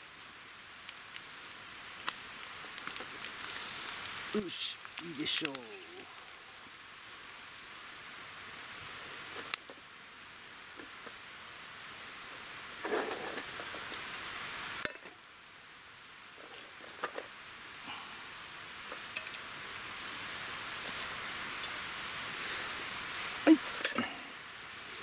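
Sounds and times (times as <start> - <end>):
bacon and egg sizzling: 0.0 - 25.0
wood fire crackling: 0.0 - 25.0.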